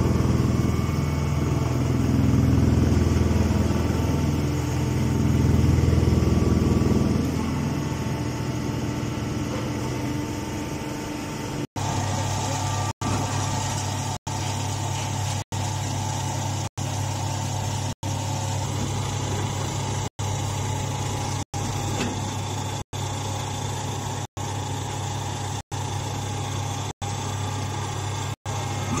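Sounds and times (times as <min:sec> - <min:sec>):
hydraulic pump motor humming: 0:00.0 - 0:29.0.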